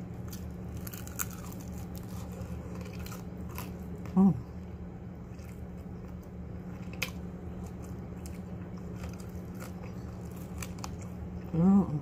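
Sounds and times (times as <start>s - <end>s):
person chewing fried chicken: 0.0s - 12.0s
steady low hum: 0.0s - 12.0s.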